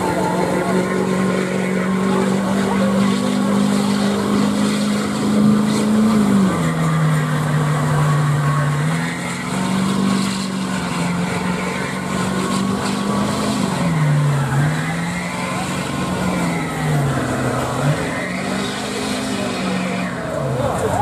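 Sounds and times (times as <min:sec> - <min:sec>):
truck engine revving: 0:00.0 - 0:21.0
wheels spinning in mud: 0:00.0 - 0:21.0.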